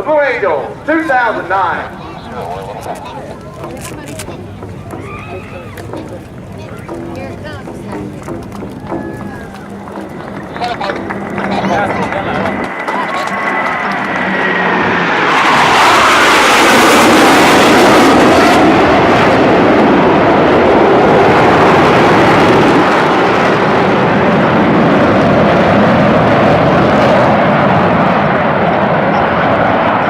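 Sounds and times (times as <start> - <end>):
jet roar: 0.0 - 30.0.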